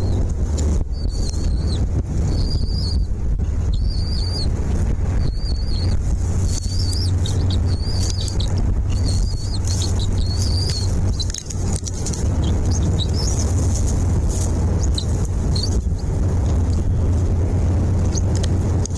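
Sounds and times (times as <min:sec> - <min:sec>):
small bird chirping: 0:00.0 - 0:16.8, 0:18.0 - 0:18.9
steady low rumble: 0:00.0 - 0:18.9.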